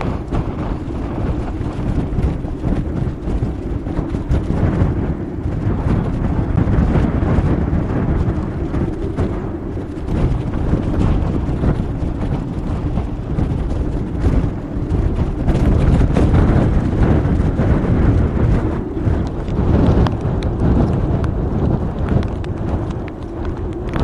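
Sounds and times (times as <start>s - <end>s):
storm wind buffeting microphone: 0.0s - 24.0s.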